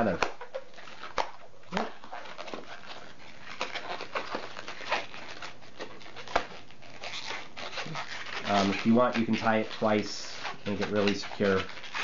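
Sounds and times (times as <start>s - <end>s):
balloon squeaking and rubbing: 0.0s - 12.0s.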